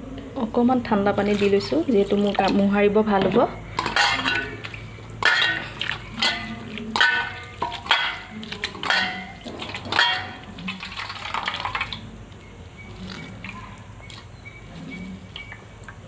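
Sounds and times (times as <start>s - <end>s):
wet squelching and splashing: 1.2s - 2.8s, 3.7s - 16.0s.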